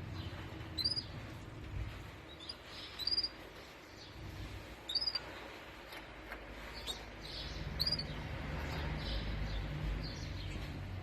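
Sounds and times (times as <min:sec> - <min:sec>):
canaries chirping: 0:00.0 - 0:11.0
low steady rumble: 0:00.0 - 0:11.0.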